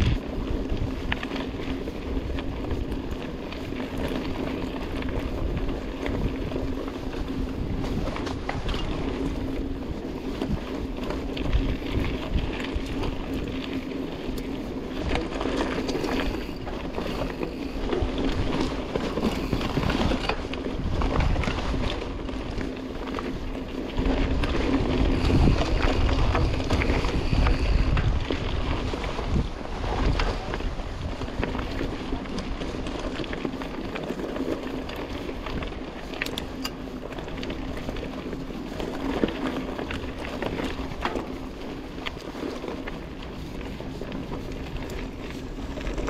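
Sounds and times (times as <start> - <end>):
bike tyres rolling over dirt: 0.0 - 46.0
wind buffeting microphone: 0.0 - 46.0.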